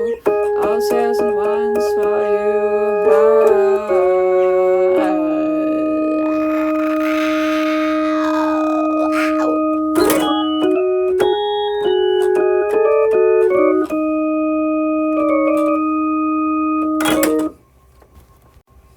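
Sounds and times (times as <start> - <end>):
electronic organ-like tone: 0.0 - 18.9.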